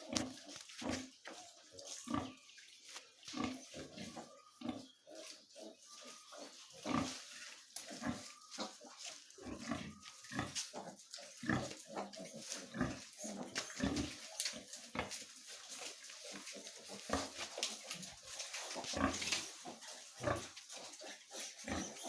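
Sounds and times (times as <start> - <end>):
pigs grunting: 0.0 - 2.4, 3.3 - 22.0
pigs squeaking: 0.0 - 22.0.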